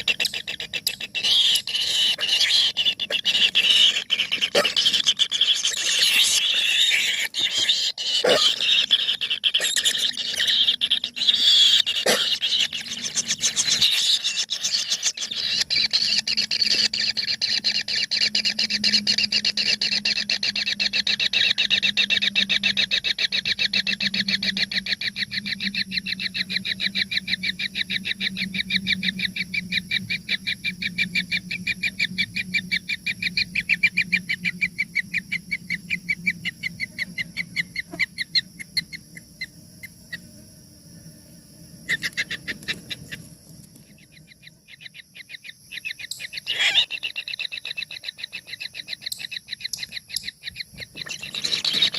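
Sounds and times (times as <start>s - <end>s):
nestling birds begging calls: 0.0s - 40.3s, 41.8s - 51.9s.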